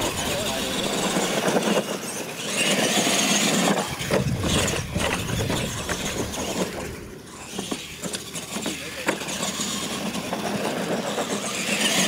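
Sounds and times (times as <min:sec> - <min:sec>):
tires scrabbling on dirt: 0:00.0 - 0:12.0
toy truck motors whining: 0:00.0 - 0:12.0.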